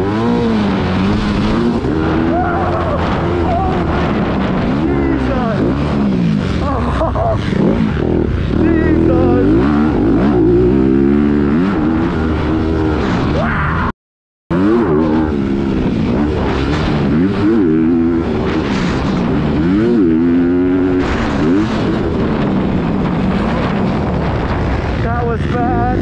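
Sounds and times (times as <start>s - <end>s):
motocross bike engine revving: 0.0s - 13.8s, 14.5s - 26.0s.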